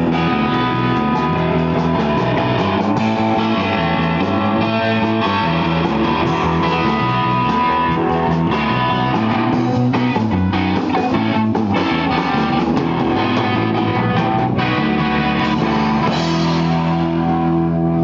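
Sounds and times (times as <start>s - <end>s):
live surf rock band playing: 0.0s - 18.0s.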